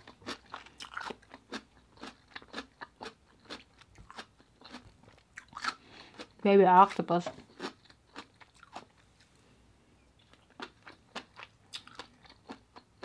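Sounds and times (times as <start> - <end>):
person chewing crunchy radish: 0.0 - 9.4, 10.0 - 13.0.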